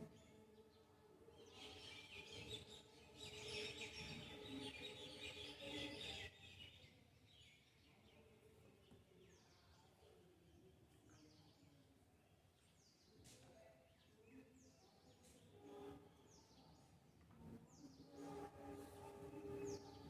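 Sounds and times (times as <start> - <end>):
background noise: 0.0 - 20.0
faint bird chirping: 0.0 - 20.0.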